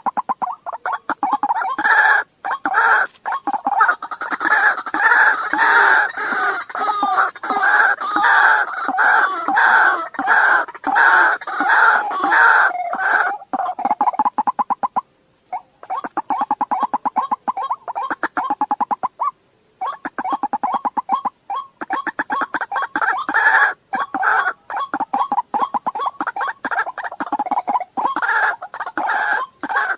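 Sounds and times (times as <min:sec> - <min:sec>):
waterhen harsh croaking calls: 0:00.0 - 0:29.9.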